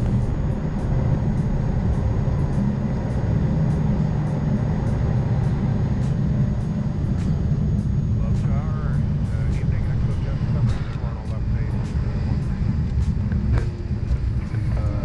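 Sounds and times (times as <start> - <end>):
jet cabin engine rumble: 0.0 - 15.0.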